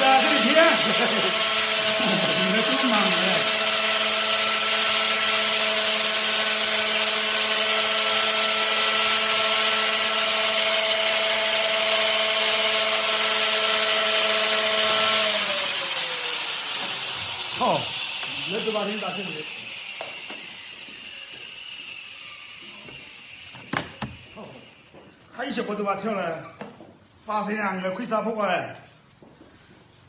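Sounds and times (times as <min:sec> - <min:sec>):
electric saw running: 0:00.0 - 0:25.2.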